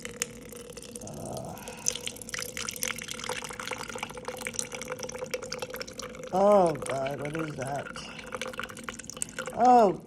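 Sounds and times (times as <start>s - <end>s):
liquid pouring and splashing: 0.0s - 10.0s.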